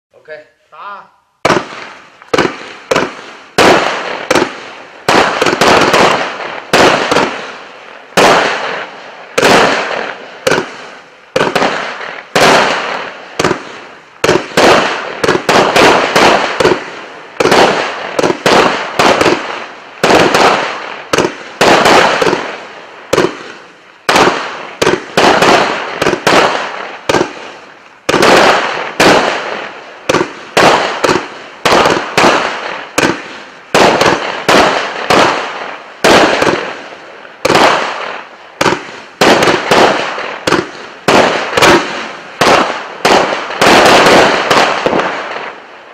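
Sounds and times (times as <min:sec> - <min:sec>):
firework bangs: 0:01.4 - 0:45.9
firework crackling pops: 0:01.4 - 0:45.9.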